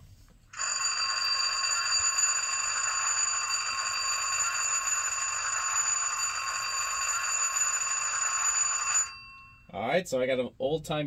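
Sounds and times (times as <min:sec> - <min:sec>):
bell ringing from small speaker: 0:00.6 - 0:09.8.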